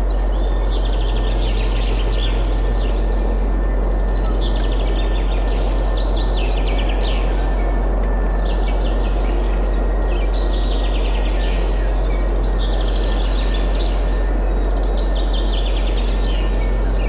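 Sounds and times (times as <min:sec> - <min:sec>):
wind with low rumble: 0:00.0 - 0:17.0.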